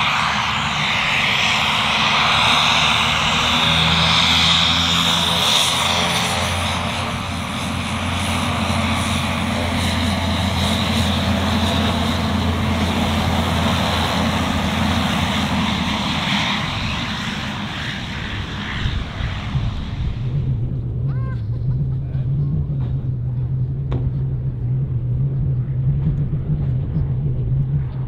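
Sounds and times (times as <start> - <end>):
high turbine whine: 0.0 - 28.0
propeller drone: 0.0 - 28.0.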